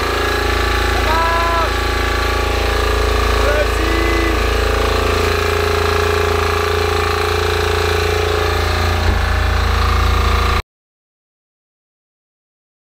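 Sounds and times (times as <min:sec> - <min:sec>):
diesel generator running: 0:00.0 - 0:10.6.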